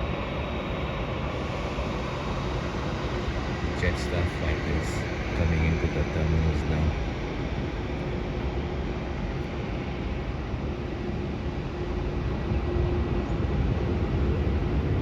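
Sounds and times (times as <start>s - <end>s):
distant jet engines rumbling: 0.0s - 15.0s.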